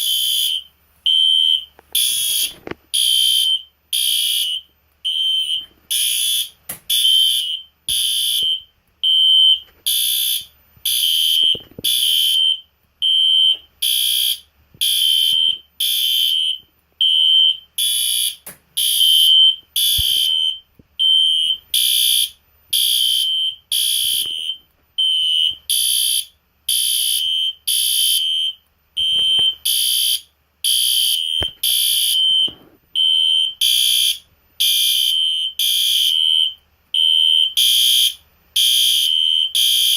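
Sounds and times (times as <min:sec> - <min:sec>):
fire alarm horn pulsing: 0:00.0 - 0:39.9.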